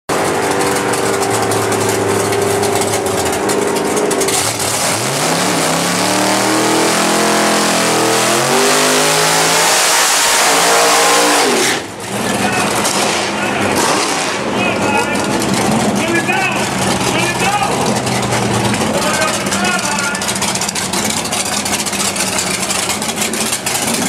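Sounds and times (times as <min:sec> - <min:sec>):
drag car engine revving: 0:00.1 - 0:24.0.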